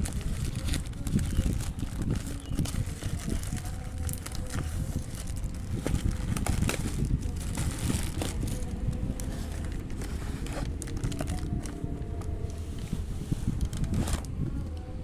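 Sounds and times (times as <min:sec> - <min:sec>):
low background rumble: 0:00.0 - 0:15.0
packaging clicks and crinkles: 0:00.0 - 0:15.0.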